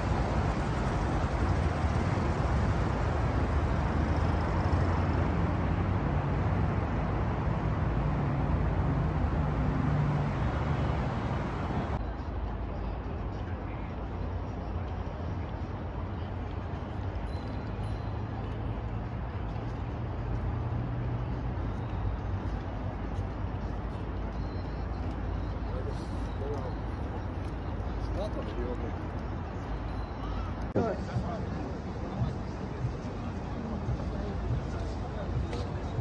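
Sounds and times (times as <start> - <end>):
cars passing: 0.0 - 36.0.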